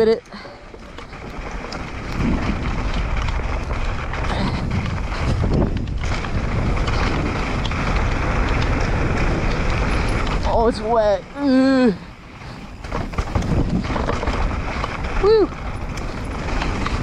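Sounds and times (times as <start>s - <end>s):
bike rattling clicks: 0.0s - 11.1s, 12.3s - 17.0s
wind on microphone: 0.6s - 17.0s.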